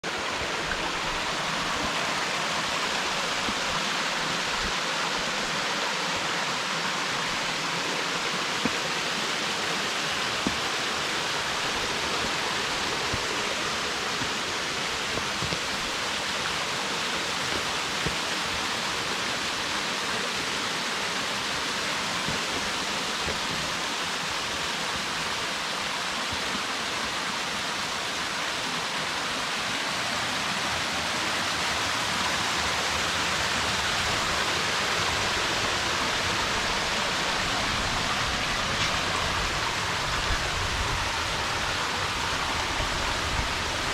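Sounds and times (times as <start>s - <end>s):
waterfall crashing: 0.0s - 43.9s.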